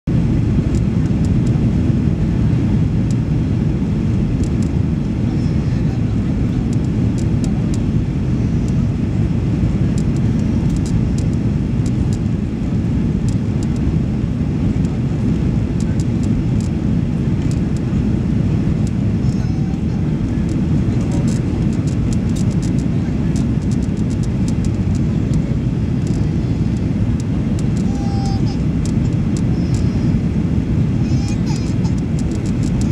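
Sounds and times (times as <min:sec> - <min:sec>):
airplane cabin airflow and engine: 0:00.1 - 0:32.9.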